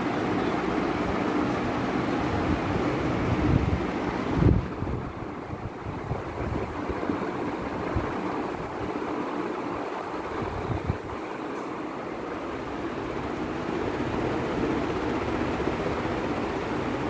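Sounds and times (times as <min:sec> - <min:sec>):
ceiling fans whooshing: 0:00.0 - 0:17.0.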